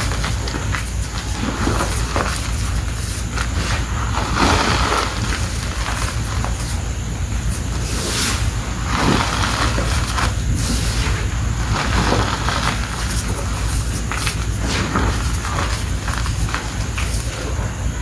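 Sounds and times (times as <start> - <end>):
hands crumbling chalk: 0.0 - 17.6
steady low hum: 0.0 - 18.0.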